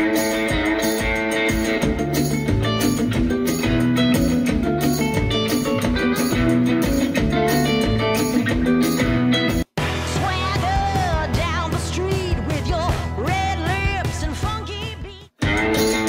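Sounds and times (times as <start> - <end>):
rock music through loudspeaker: 0.0 - 16.0.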